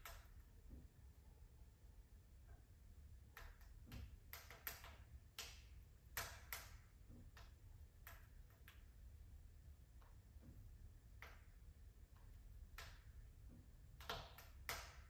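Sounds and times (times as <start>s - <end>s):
wood fire crackling: 2.3s - 15.0s.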